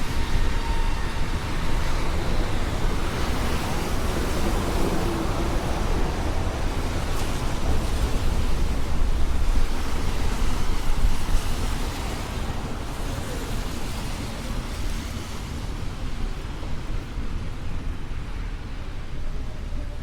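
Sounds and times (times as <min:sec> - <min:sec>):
traffic on wet street: 0:00.0 - 0:20.0.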